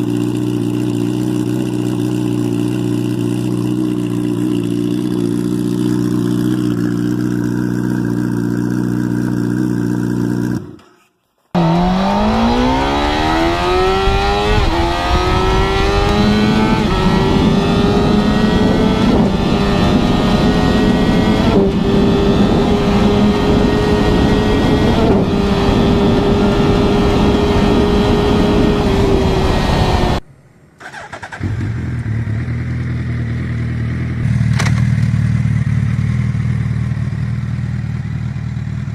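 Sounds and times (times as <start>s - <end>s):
motorcycle engine accelerating: 0.0s - 10.9s, 11.5s - 30.2s, 30.8s - 38.9s.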